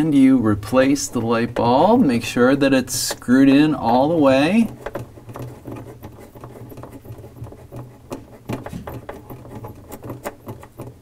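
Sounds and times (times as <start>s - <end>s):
bulb scratching clicks: 0.0s - 11.0s.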